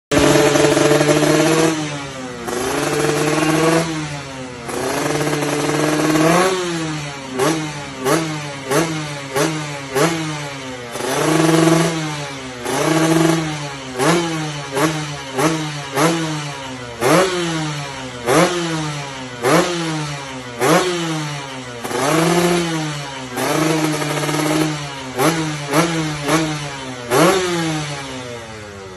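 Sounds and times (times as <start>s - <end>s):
motorcycle engine revving: 0.1s - 28.9s.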